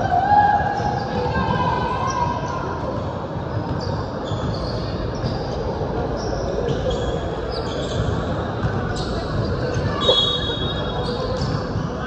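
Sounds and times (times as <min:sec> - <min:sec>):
sneakers squeaking: 0:00.6 - 0:12.0.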